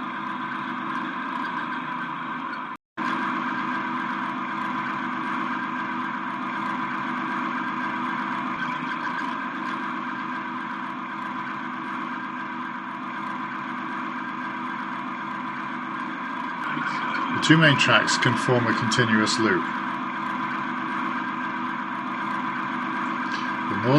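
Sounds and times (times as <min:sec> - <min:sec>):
model train motors whining: 0:00.0 - 0:23.9.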